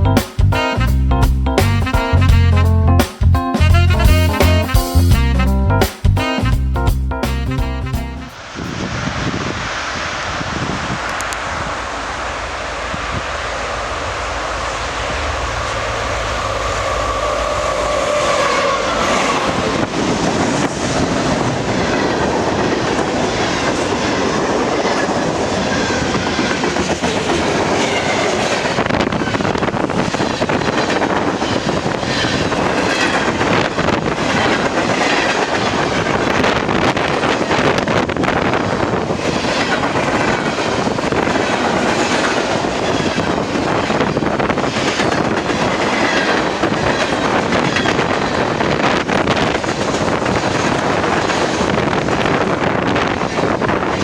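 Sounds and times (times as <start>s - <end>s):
locomotive passing tone: 7.3s - 54.0s.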